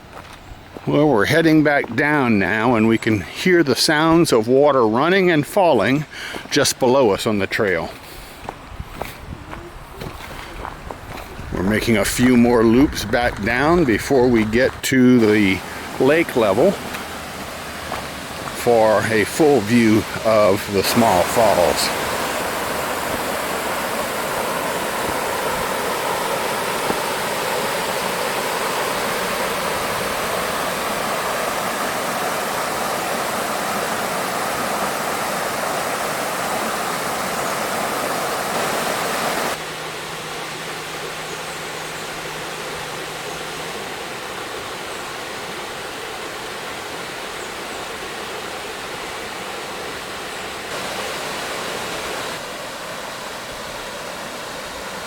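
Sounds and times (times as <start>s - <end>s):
waterfall rushing: 9.0s - 55.0s.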